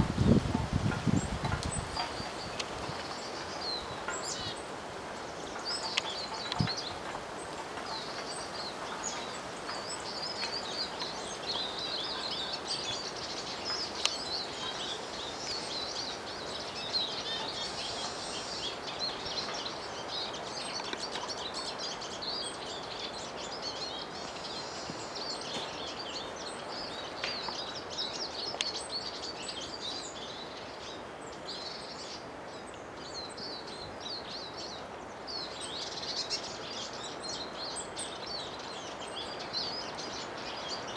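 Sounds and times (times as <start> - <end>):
small birds chirping: 0.0 - 40.9
steady background noise: 0.0 - 40.9.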